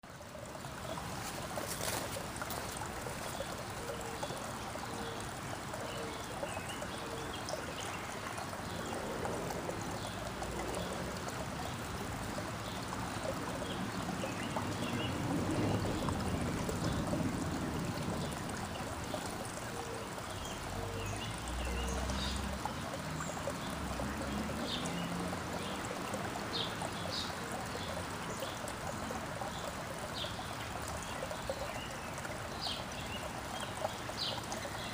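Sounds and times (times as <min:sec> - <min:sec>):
rushing water-like noise: 0:00.0 - 0:34.9
songbirds chirping: 0:00.1 - 0:34.9.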